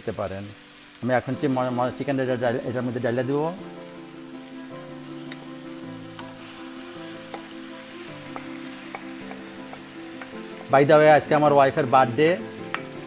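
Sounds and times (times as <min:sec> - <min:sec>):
background music with held notes: 0:00.0 - 0:13.0
chicken sizzling in a pan: 0:00.0 - 0:13.0.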